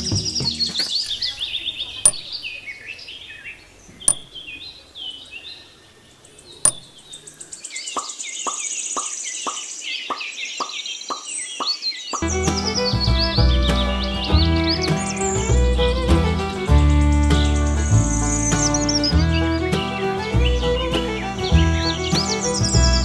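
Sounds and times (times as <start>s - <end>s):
birds twittering: 0.0s - 23.0s.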